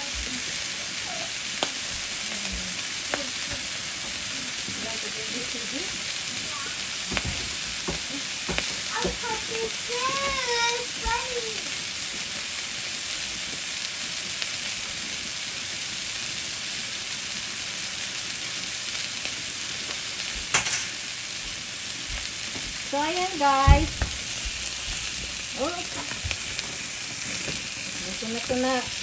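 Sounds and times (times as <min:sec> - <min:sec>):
sausages sizzling in a pan: 0:00.0 - 0:29.0.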